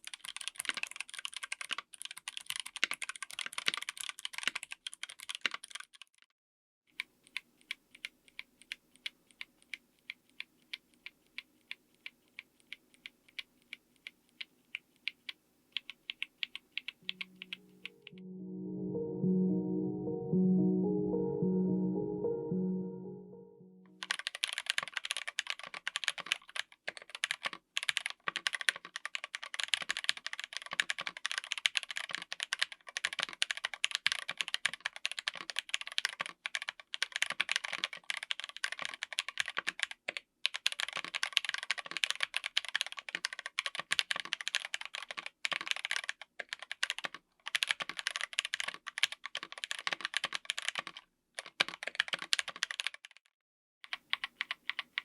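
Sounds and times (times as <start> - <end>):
mechanical keyboard typing: 0.0 - 6.2, 7.0 - 17.9, 24.0 - 55.0.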